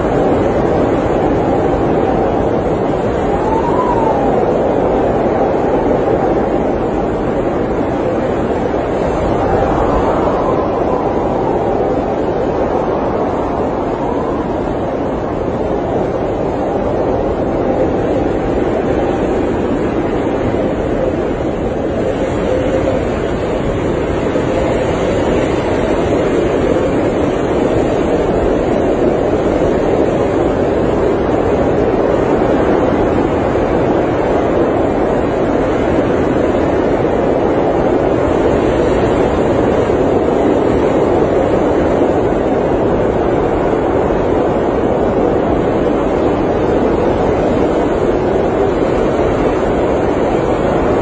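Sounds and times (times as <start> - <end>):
blizzard wind blowing: 0.0 - 51.0.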